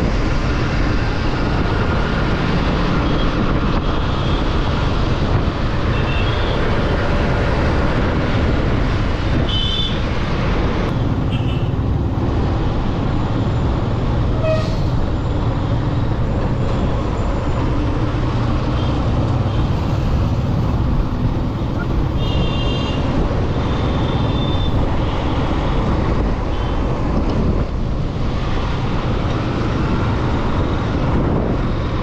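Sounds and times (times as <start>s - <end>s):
street traffic noise: 0.0s - 32.0s.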